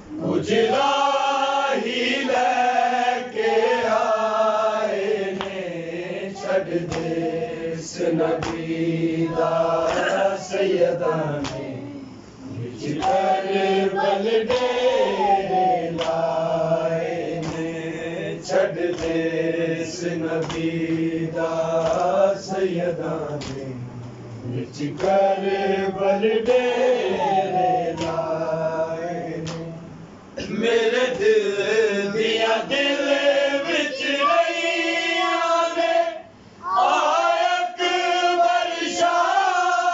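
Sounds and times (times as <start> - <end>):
men chanting in unison: 0.1 - 39.9.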